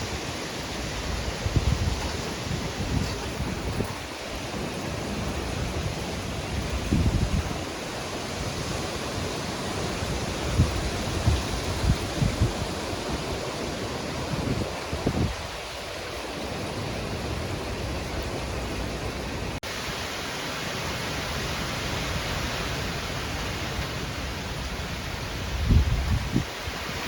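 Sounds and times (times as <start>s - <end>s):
wind buffeting microphone: 0.0s - 19.6s, 24.1s - 27.0s.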